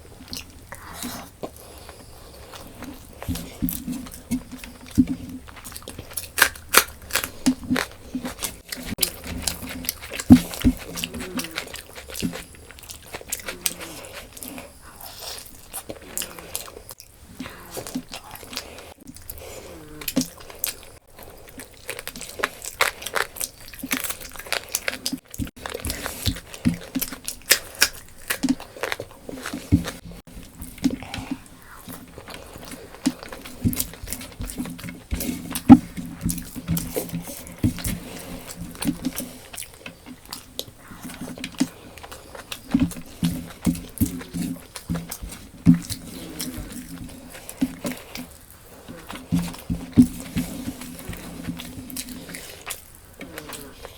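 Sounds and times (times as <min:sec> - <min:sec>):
person chewing and crunching: 0:00.0 - 0:53.9.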